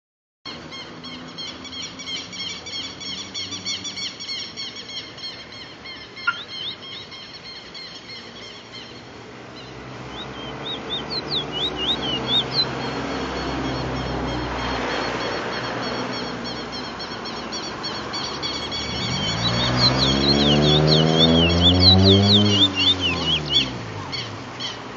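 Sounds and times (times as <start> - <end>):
songbird singing: 0.5 - 24.9.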